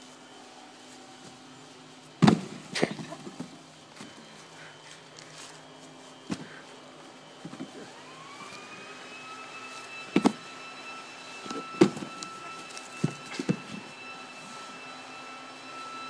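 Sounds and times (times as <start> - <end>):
machine whine: 0.0 - 16.0.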